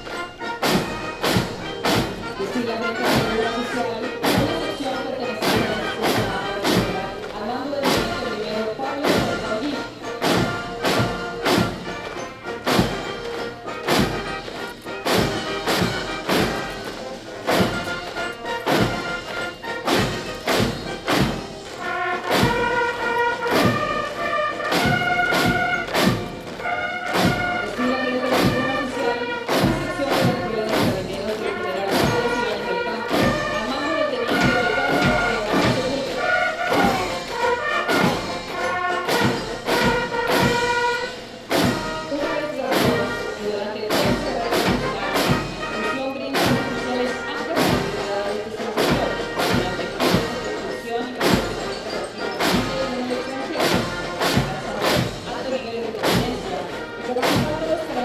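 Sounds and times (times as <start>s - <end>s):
brass melody: 0.0s - 58.0s
military band playing a march: 0.0s - 58.0s.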